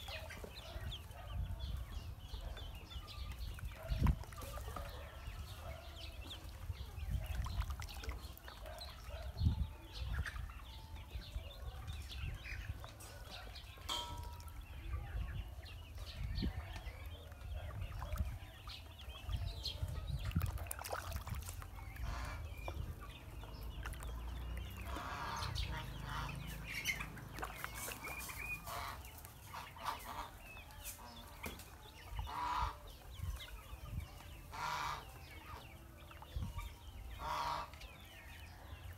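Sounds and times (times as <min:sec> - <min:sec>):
ducklings and chickens clucking: 0:00.0 - 0:38.9.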